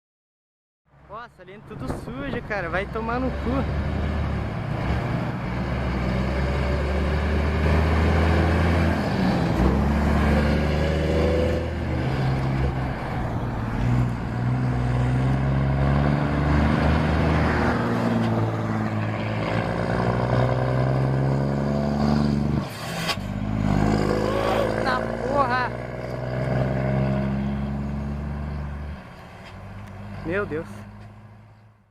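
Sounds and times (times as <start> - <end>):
truck diesel engines under load: 0.9 - 31.9.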